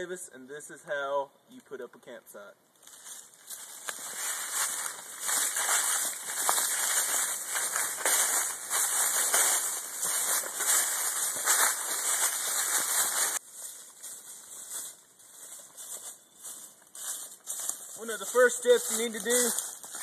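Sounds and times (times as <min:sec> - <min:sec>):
footsteps crunching dry leaves: 0:02.8 - 0:20.0.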